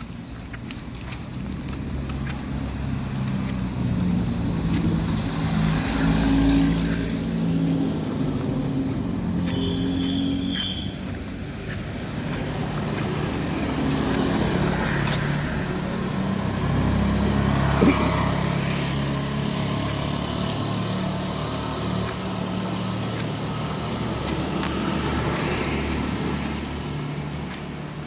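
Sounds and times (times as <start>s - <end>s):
vehicle engine humming: 0.6s - 28.0s.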